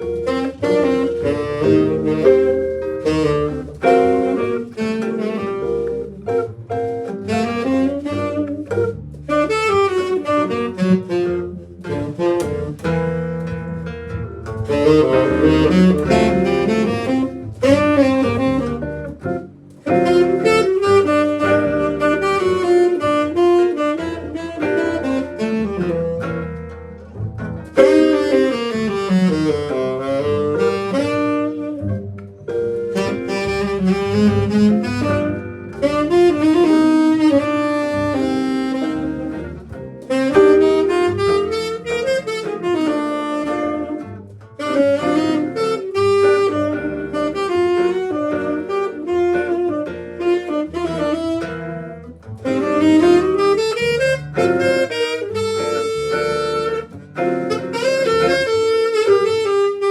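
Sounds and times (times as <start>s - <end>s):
bass notes: 0.0s - 59.9s
saxophone melody: 0.0s - 59.9s.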